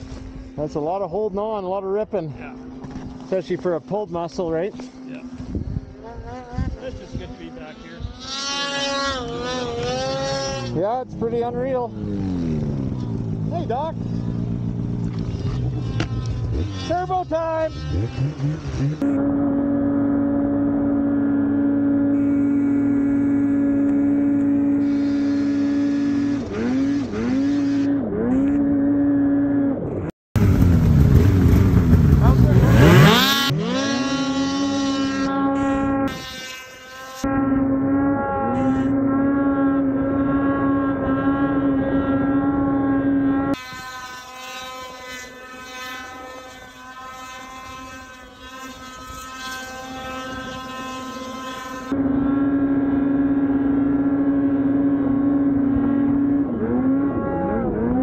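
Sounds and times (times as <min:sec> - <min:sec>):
several snowmobiles revving: 0:00.0 - 0:58.0
snowmobile engine revving: 0:00.0 - 0:58.0.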